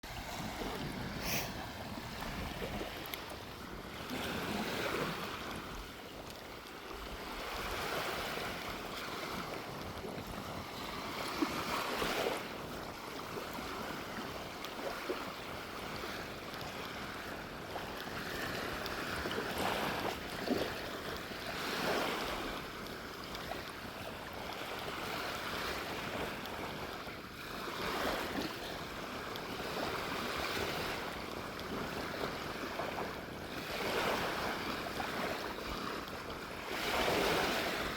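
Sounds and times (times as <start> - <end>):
sea breeze: 0.0 - 37.9
waves washing onto a beach: 0.0 - 37.9.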